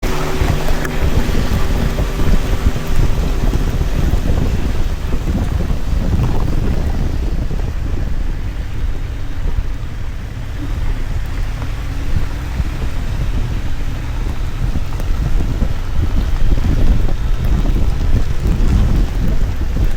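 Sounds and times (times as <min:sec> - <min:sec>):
rain: 0:00.0 - 0:19.9
road noise: 0:00.0 - 0:19.9
wind buffeting microphone: 0:00.0 - 0:19.9.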